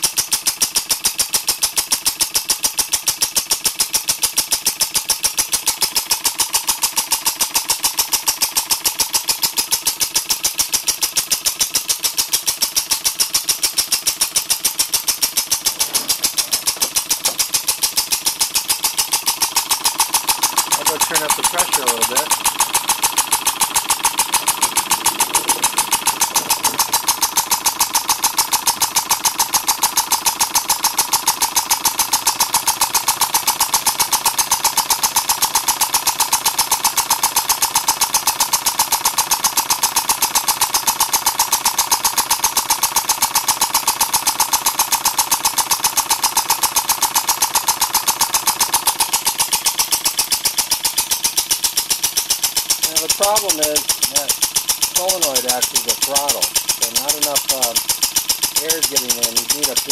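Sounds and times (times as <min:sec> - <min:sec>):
small engine pulsing: 0:00.0 - 0:59.9.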